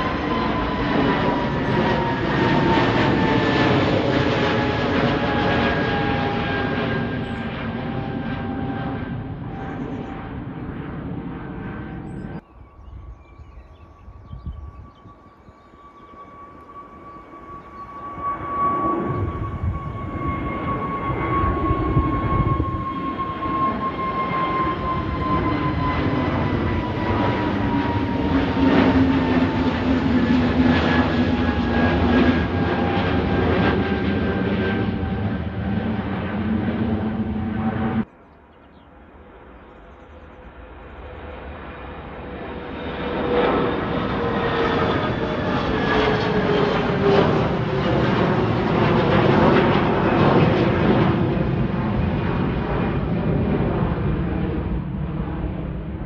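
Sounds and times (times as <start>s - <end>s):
jet engines roaring with high whine: 0.0s - 56.0s.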